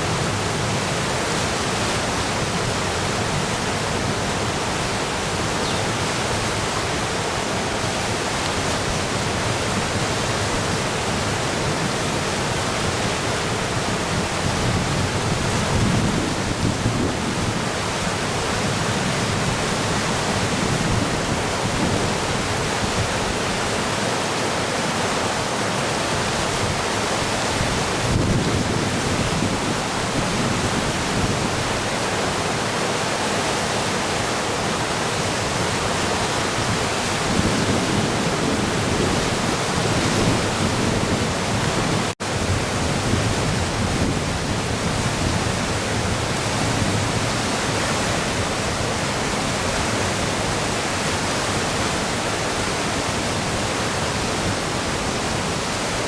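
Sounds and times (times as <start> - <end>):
flooded river roaring: 0.0 - 56.0.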